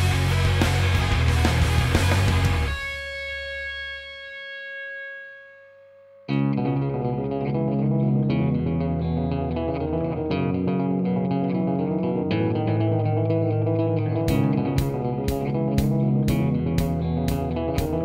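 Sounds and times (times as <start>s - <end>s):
rock music: 0.0s - 5.0s, 6.3s - 18.0s.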